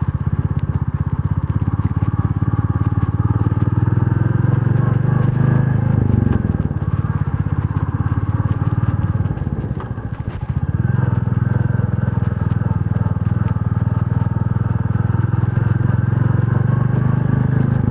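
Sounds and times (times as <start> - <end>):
engine running with fast throb: 0.0 - 17.9.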